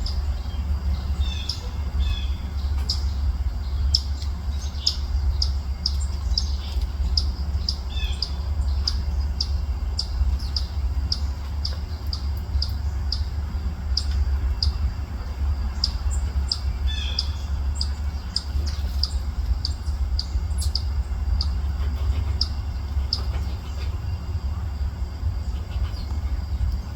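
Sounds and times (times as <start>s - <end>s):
songbird chip notes: 0.0s - 26.9s
steady low rumble: 0.0s - 26.9s.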